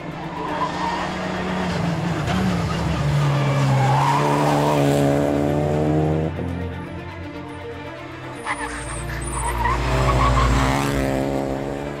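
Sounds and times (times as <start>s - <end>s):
rally car engine driven hard: 0.0s - 6.9s, 8.2s - 12.0s.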